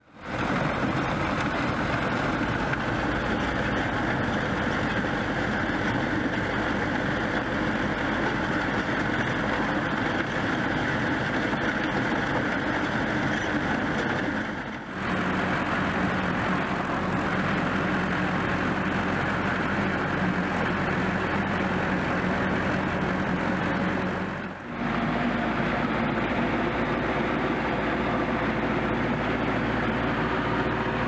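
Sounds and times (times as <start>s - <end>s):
snowblower engine drone: 0.0s - 31.0s.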